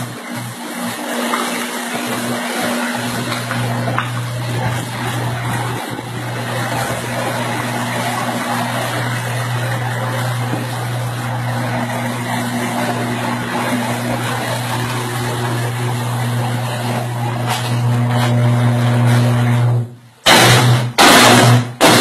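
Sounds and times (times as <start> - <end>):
heavy rain: 0.0 - 17.9
power line buzzing and sparking: 0.0 - 22.0.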